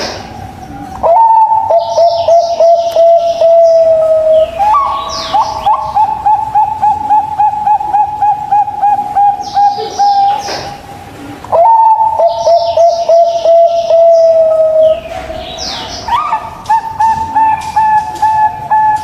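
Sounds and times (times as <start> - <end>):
doves cooing: 0.0 - 19.0
small birds chirping: 0.0 - 19.0.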